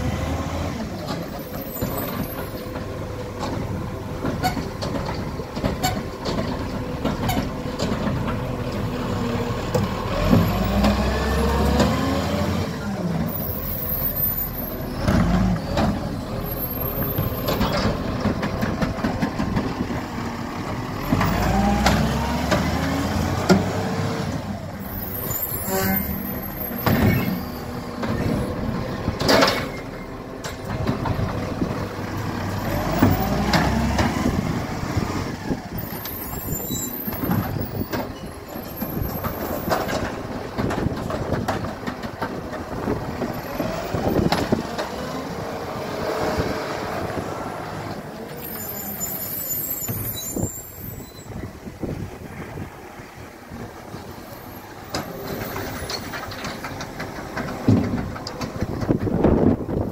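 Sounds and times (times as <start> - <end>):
diesel engine: 0.0 - 59.9.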